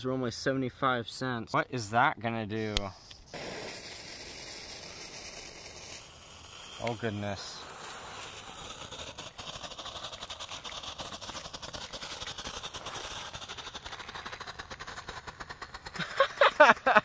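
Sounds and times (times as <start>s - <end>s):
firework sparks hissing: 2.6s - 17.0s
rapid firework crackle: 3.2s - 17.0s.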